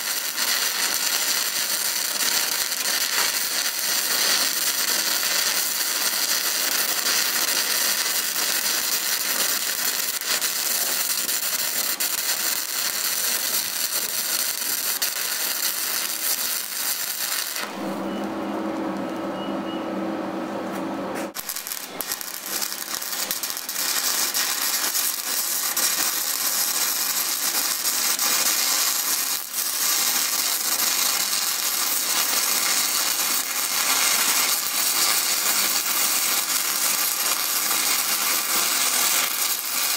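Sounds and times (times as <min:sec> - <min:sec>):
welding arc crackling: 0:00.0 - 0:18.1, 0:21.3 - 0:39.9.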